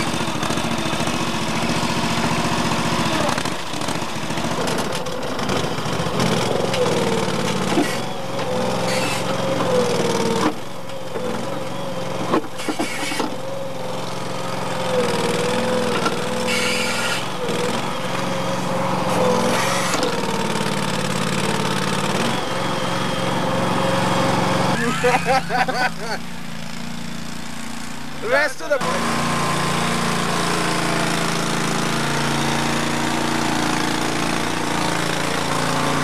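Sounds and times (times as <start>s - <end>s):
loader engine running: 0.0s - 36.0s.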